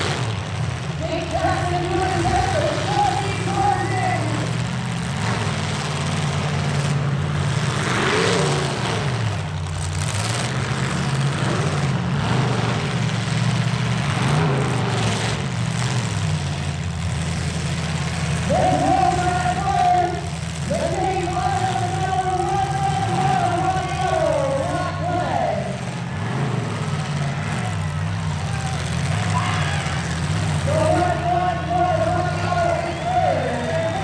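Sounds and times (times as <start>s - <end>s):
engine revving: 0.0s - 34.0s
truck engines idling: 0.0s - 34.0s.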